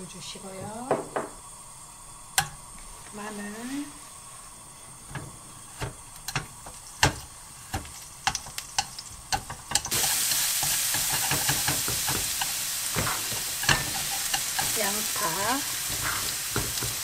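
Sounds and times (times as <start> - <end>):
garlic sizzling in oil: 0.0 - 17.0.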